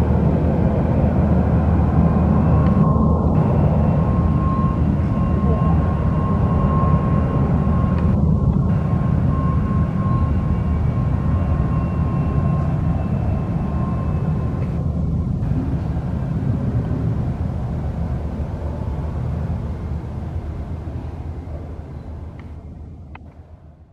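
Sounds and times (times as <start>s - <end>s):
jet engines rumbling with whine: 0.0s - 23.9s.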